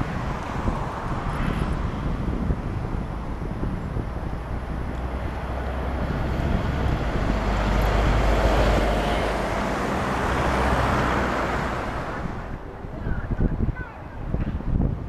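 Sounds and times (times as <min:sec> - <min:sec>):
bus engine humming: 0:00.0 - 0:14.4.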